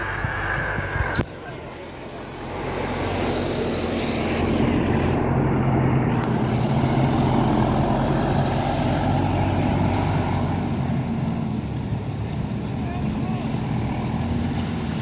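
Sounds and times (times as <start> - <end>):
tractor engine driving past: 0.0 - 15.0.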